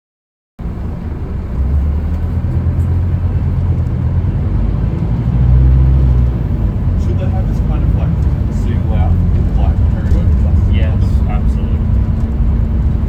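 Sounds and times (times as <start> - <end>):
bus diesel engine running: 0.6 - 13.0.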